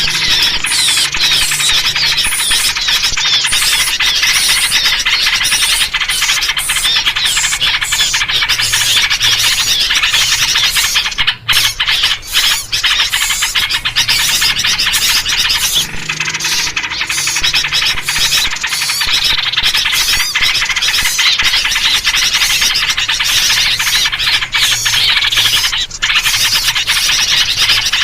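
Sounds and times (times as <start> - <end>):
flock of birds chattering: 0.0 - 28.0.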